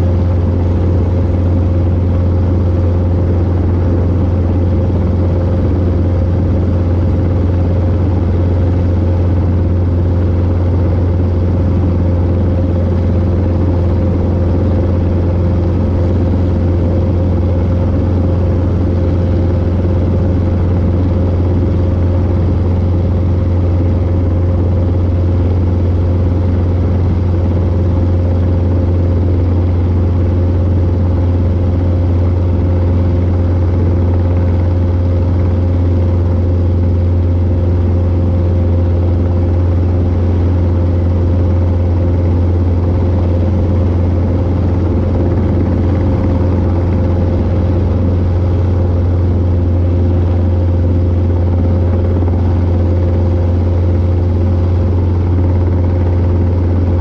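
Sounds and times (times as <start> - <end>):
helicopter droning: 0.0 - 57.0.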